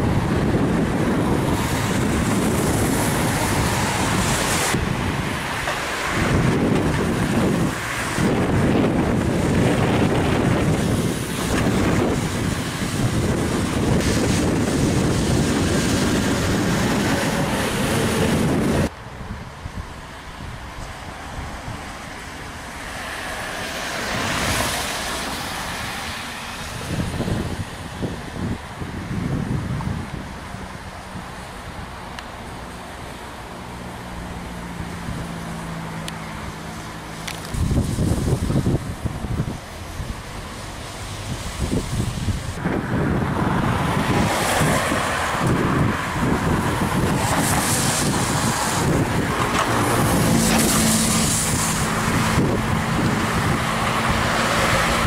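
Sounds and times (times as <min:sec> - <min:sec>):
wind buffeting microphone: 0:00.0 - 0:32.6, 0:33.2 - 0:55.0
vehicle passing on road: 0:00.0 - 0:55.0.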